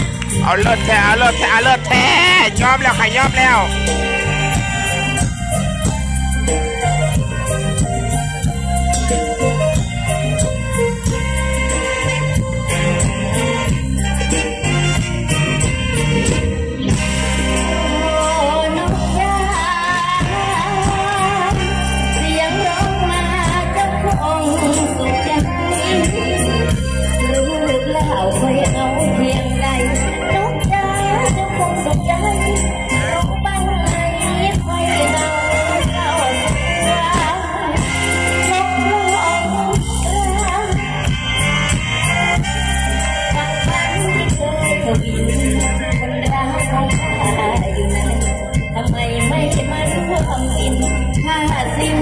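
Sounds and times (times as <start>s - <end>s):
live band with bass beat: 0.0s - 52.0s.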